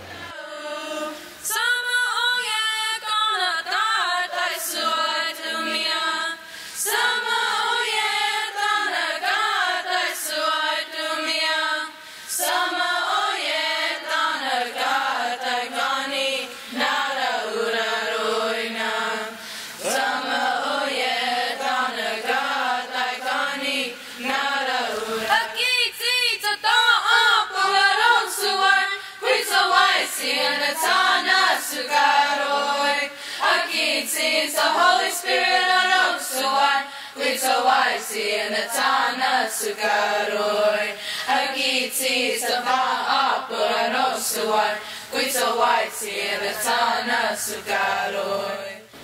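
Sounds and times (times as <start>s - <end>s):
choir singing a hymn unaccompanied: 0.0s - 49.0s.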